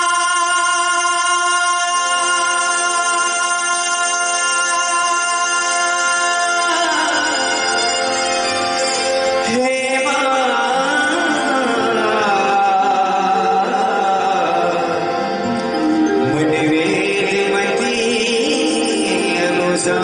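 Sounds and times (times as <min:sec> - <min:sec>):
man singing devotional song: 0:00.0 - 0:08.3, 0:09.4 - 0:20.0
harmonium chords: 0:00.0 - 0:20.0.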